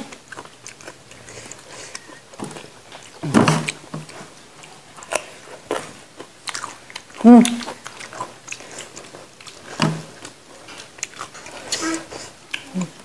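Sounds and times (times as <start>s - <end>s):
wet chewing clicks: 0.1s - 13.0s.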